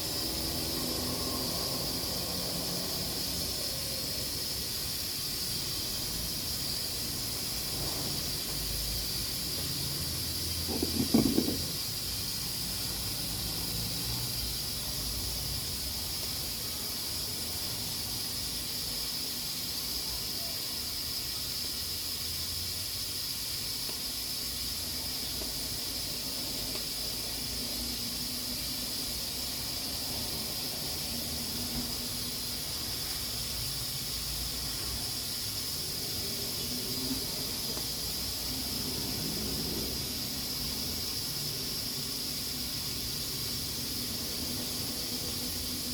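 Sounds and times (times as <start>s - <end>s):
pressure cooker steam hissing: 0.0s - 45.9s.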